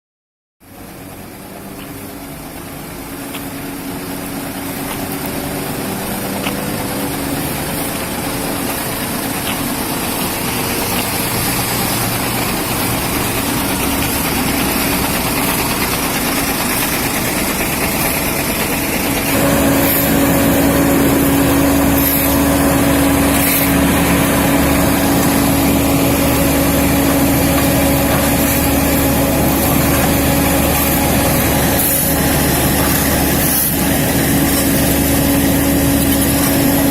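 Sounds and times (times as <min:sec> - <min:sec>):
heavy machinery diesel engines: 0:00.6 - 0:36.9.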